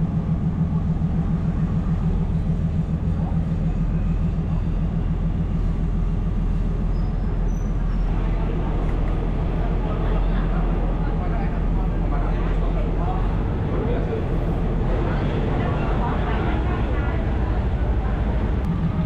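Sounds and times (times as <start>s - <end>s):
diesel train engine droning: 0.0s - 19.0s.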